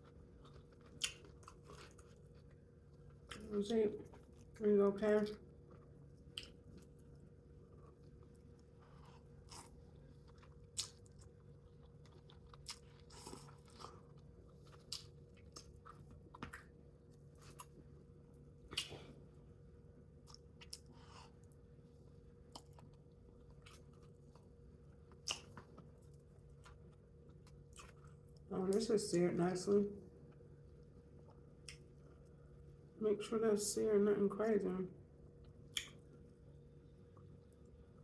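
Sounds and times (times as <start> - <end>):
quiet chewing: 0.0 - 4.6, 5.5 - 19.3, 20.2 - 28.5, 30.2 - 32.7, 35.3 - 38.0
faint steady hum: 0.0 - 38.0.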